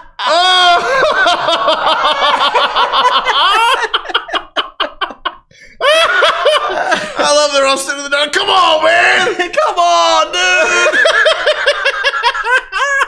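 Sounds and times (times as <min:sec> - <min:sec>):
men laughing hard: 0:00.0 - 0:07.4, 0:08.6 - 0:13.0.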